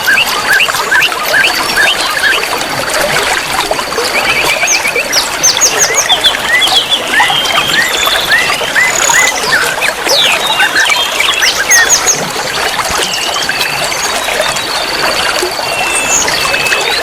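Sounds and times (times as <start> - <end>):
songbirds calling and singing: 0.0 - 17.0
water trickling: 0.0 - 17.0.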